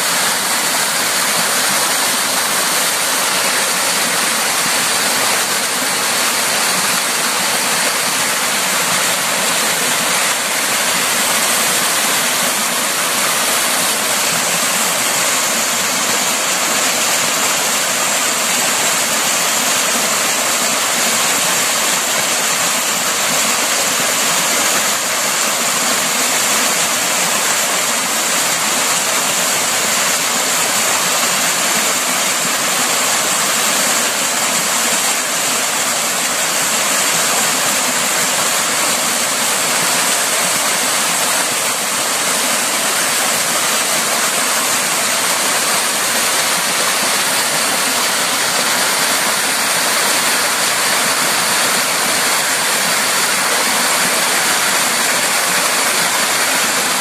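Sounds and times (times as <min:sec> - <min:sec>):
waterfall pouring over rock: 0:00.0 - 0:57.0.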